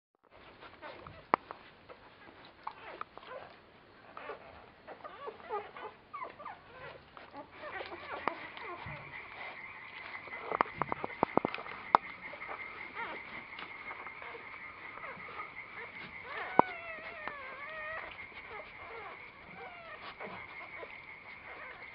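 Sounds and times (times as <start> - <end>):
puppies squeaking and grunting: 0.2 - 21.9.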